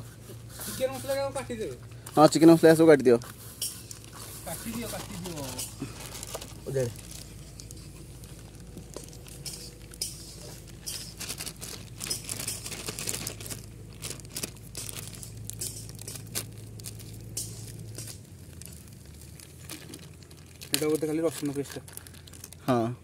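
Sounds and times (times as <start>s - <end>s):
plastic bag crinkling: 0.5s - 22.9s.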